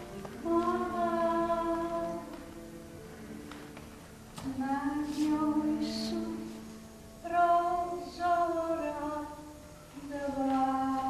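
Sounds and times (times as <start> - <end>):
woman singing long notes: 0.0 - 2.7, 4.4 - 11.0.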